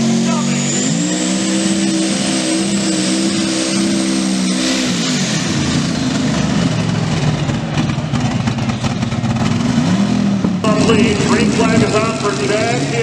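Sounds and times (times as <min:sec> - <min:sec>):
supercharged engine at high revs: 0:00.0 - 0:13.0
supercharger whine: 0:00.0 - 0:13.0.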